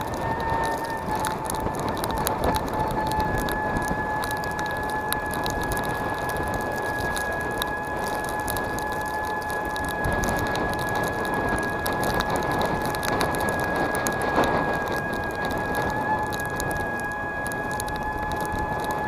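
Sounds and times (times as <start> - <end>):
crackling snow or sleet: 0.0 - 19.0
electric scooter motor whining: 0.0 - 19.0.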